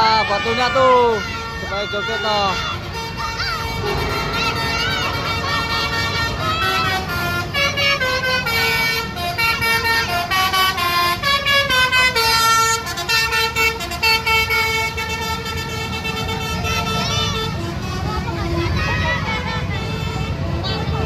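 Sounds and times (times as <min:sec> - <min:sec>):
bus horn playing a melody: 0:00.0 - 0:21.0
low rumble of engines and traffic: 0:00.0 - 0:21.0.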